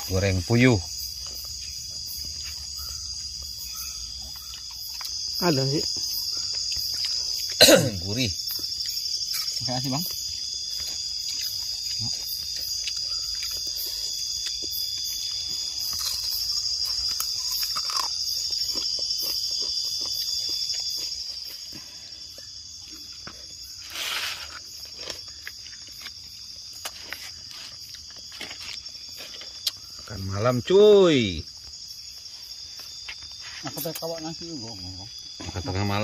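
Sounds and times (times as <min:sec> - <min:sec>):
night insects trilling: 0:00.0 - 0:36.0.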